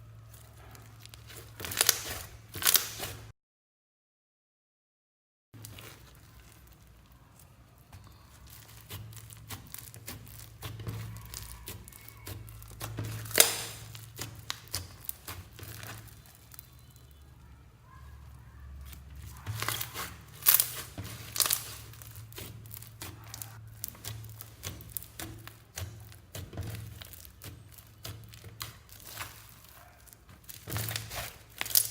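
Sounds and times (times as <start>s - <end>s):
slime crackling and popping: 0.2s - 3.3s, 5.6s - 17.2s, 18.2s - 31.9s.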